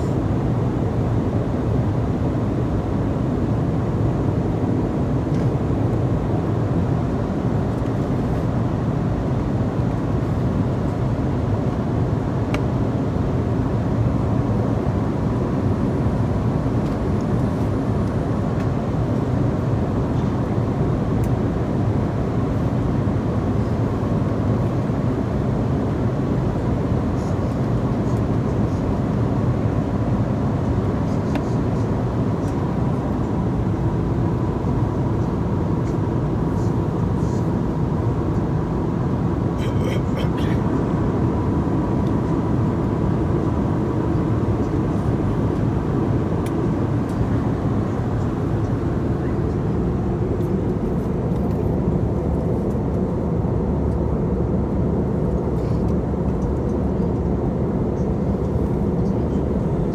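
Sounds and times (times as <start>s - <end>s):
airliner cabin rumble: 3.5s - 59.9s.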